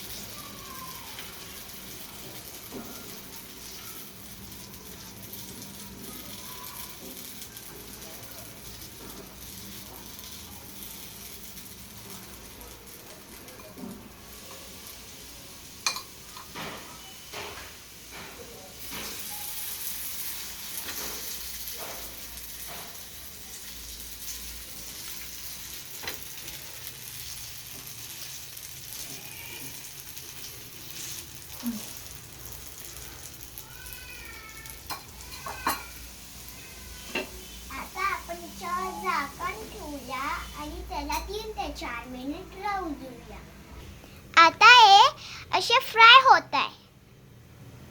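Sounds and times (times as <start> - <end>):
batter sizzling in hot oil: 0.0 - 43.4.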